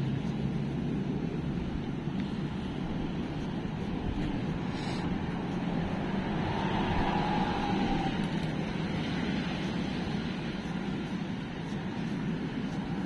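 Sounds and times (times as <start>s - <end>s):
steady low outdoor rumble: 0.0s - 13.0s.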